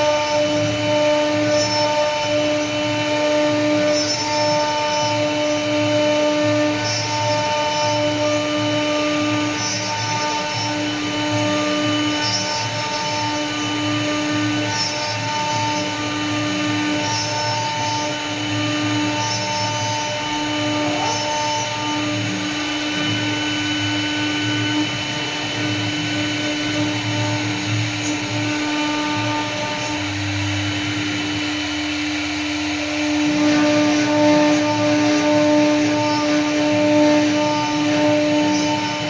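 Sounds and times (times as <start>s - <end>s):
bit cutting wood: 0.0s - 39.0s
router spindle whine: 0.0s - 39.0s.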